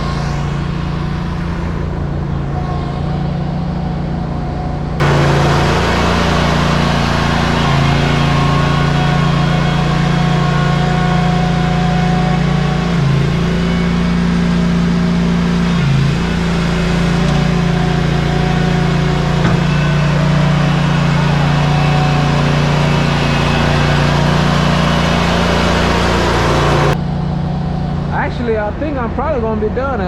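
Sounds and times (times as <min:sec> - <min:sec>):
diesel engine running steadily: 0:00.0 - 0:30.0.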